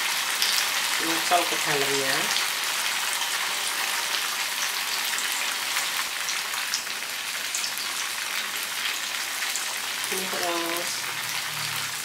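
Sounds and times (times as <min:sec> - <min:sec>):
tofu deep-frying in hot oil: 0:00.0 - 0:12.0.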